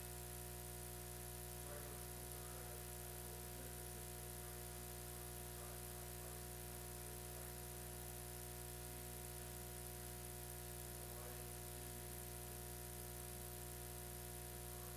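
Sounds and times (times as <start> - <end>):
electrical hum and buzz: 0.0 - 14.9.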